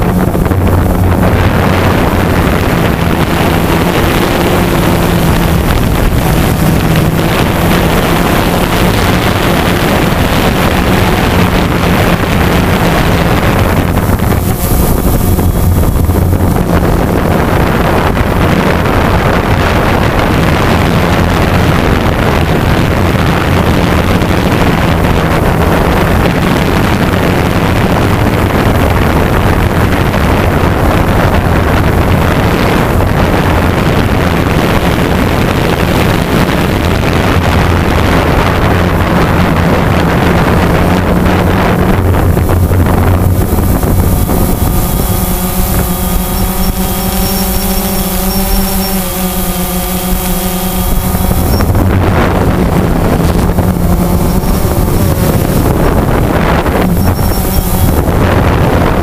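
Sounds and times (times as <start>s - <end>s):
drone motors buzzing: 0.0s - 59.0s
rushing air noise: 0.0s - 59.0s.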